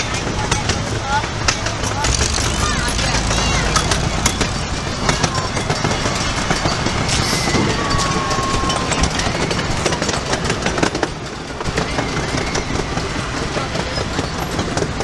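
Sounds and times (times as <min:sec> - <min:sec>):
ride train rumbling: 0:00.0 - 0:15.0
wheels clicking over rail joints: 0:00.0 - 0:15.0.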